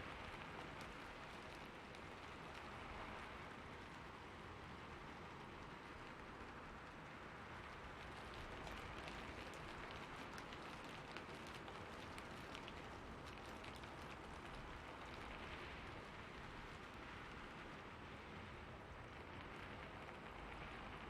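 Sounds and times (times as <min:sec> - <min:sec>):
rain on a rooftop: 0:00.0 - 0:21.0.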